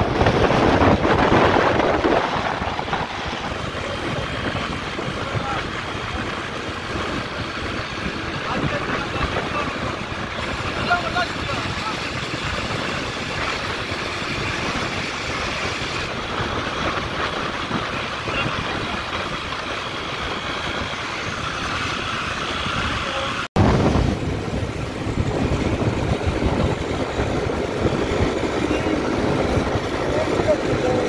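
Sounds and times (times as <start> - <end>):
motorcycle engine and road hum: 0.0 - 31.0
wind rushing over microphone: 0.0 - 31.0.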